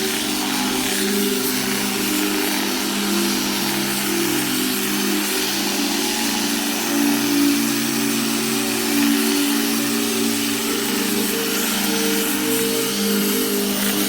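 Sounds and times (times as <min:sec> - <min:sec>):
power tool motor running: 0:00.0 - 0:14.0.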